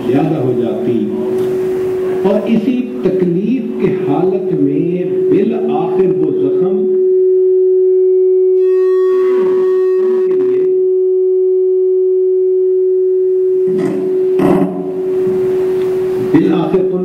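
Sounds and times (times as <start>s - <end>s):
loud single-pitched hum: 0.0s - 17.0s.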